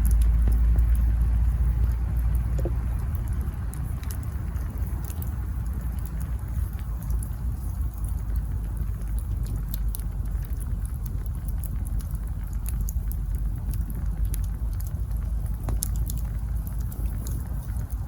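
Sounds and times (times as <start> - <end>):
campfire crackling: 0.0 - 18.0
low fire rumble: 0.0 - 18.0.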